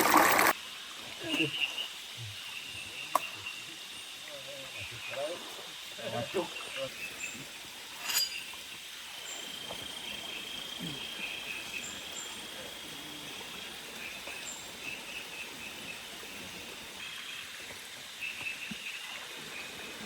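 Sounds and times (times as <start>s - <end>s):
insect high buzz: 0.0s - 20.0s
insects chirping: 0.0s - 20.0s
steady hiss: 0.0s - 20.0s
birds chirping: 1.1s - 20.0s.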